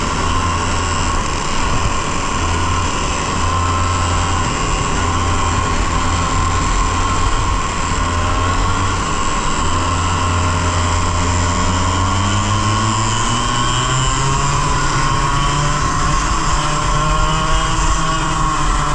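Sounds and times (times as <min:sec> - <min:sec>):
two-stroke kart engine revving: 0:00.0 - 0:18.9.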